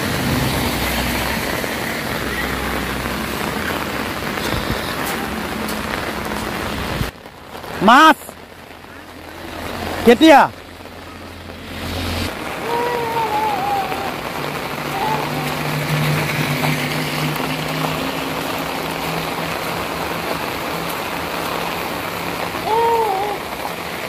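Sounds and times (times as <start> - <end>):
rain on a wet road: 0.0 - 24.0.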